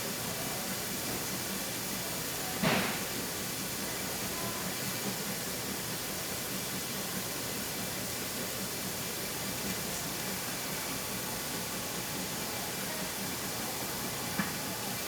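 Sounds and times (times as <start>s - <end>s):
steam hissing from steamer: 0.0s - 15.0s.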